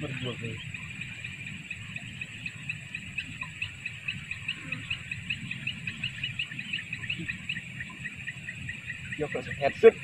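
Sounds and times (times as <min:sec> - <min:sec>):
ducks whistling calls: 0:00.0 - 0:10.0.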